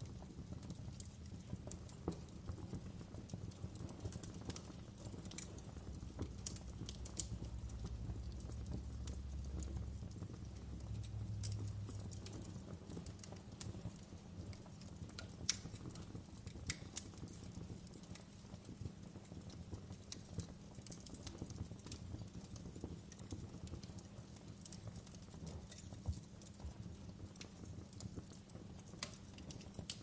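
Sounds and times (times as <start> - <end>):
fireplace crackling: 0.0 - 30.0.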